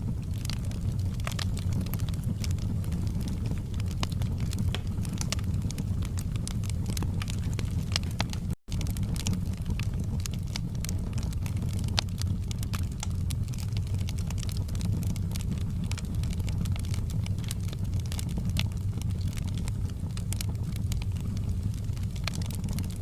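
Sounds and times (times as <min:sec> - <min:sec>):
low rumble of burning fire: 0:00.0 - 0:23.0
wood fire crackling: 0:00.0 - 0:23.0.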